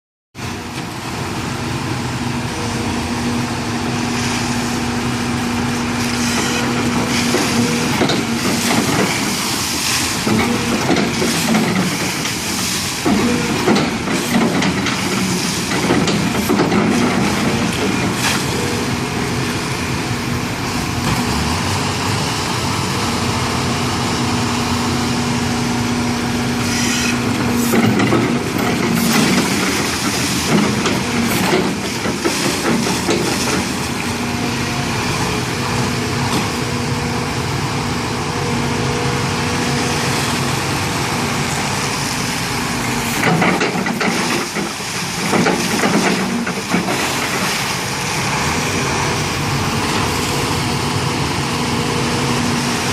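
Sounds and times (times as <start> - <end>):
heavy machine diesel engine running: 0.4 - 52.9.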